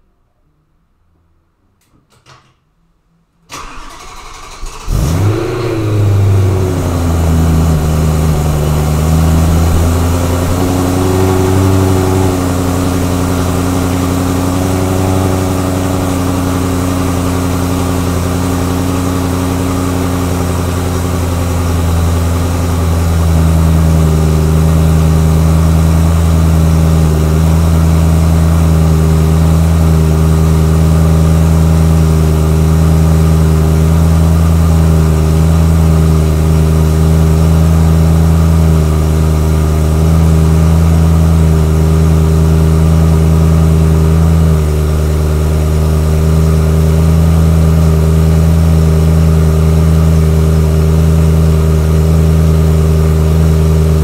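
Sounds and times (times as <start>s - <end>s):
car engine idling: 3.5s - 54.0s.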